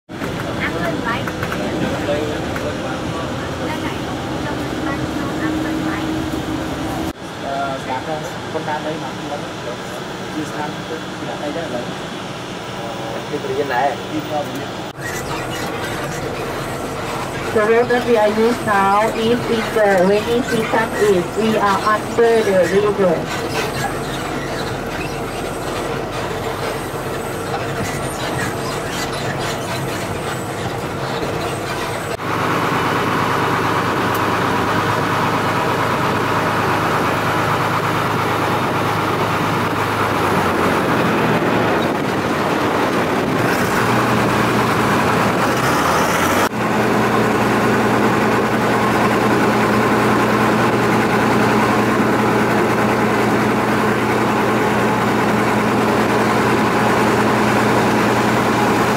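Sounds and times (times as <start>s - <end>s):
boat engine drone: 0.1s - 58.9s.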